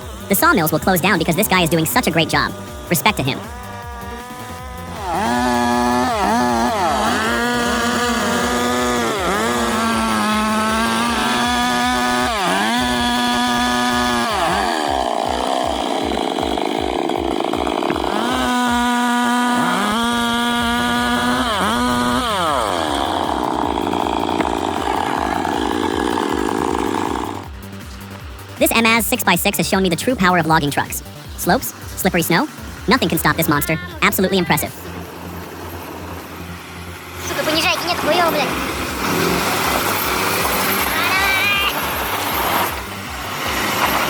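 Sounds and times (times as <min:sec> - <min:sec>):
chainsaw cutting at high revs: 0:00.0 - 0:44.0.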